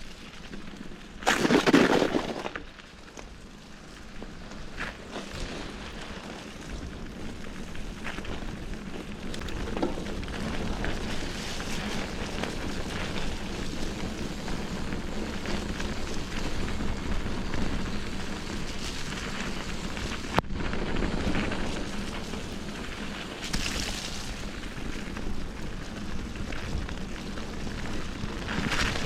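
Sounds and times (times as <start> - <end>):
bike tyres rolling over rough trail: 0.0 - 29.0.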